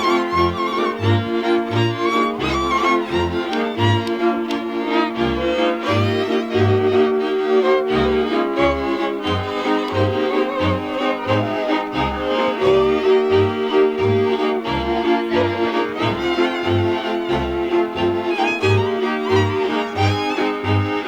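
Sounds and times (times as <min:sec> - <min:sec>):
bowed bass strokes: 0:00.0 - 0:21.0
fiddle melody: 0:00.0 - 0:21.0.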